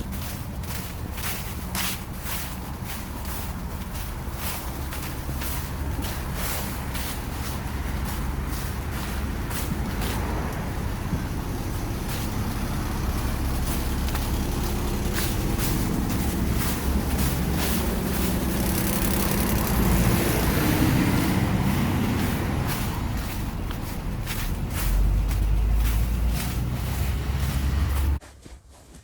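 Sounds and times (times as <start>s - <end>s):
heavy vehicle engine rumbling: 0.0s - 28.2s
road traffic: 0.0s - 28.2s.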